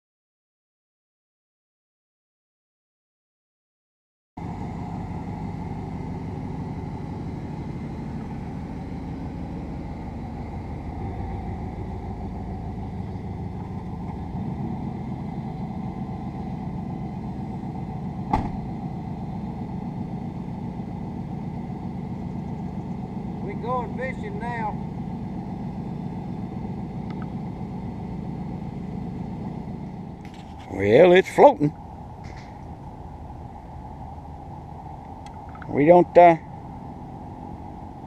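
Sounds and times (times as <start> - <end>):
vehicle engine running: 4.4 - 38.0.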